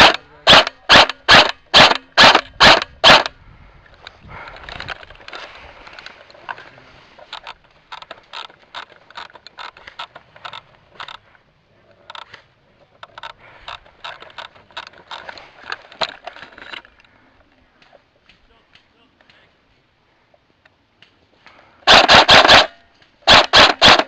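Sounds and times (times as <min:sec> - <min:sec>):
crackling and scraping: 0:00.0 - 0:19.4.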